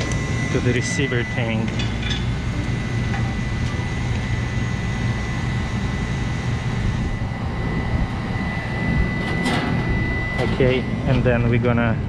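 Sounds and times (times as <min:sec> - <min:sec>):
refrigeration unit humming: 0:00.0 - 0:12.0
thin high tone: 0:00.0 - 0:12.0.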